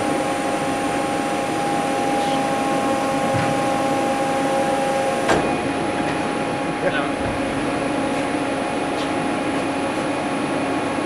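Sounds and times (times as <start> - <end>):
machine hum and whine: 0.0 - 11.0.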